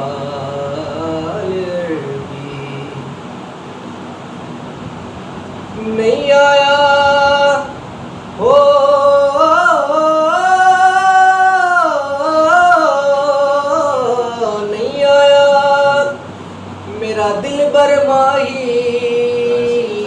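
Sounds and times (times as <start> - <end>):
man singing unaccompanied: 0.0 - 3.3, 5.7 - 20.0.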